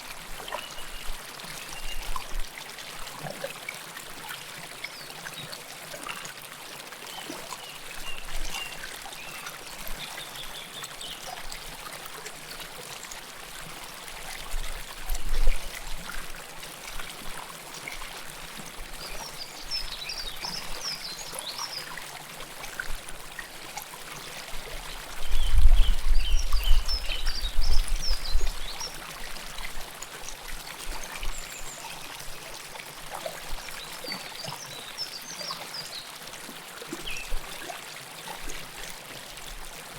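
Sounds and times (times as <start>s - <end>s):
river water flowing: 0.0s - 25.3s, 26.2s - 39.9s.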